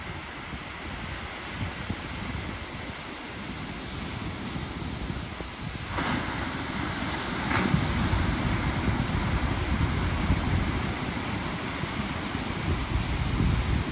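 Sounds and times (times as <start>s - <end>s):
ocean surf: 0.0s - 13.9s
wind buffeting microphone: 0.0s - 13.9s.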